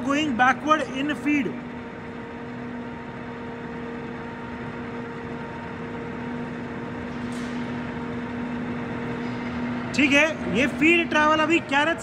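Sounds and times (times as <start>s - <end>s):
lathe running with low hum: 0.0s - 12.0s.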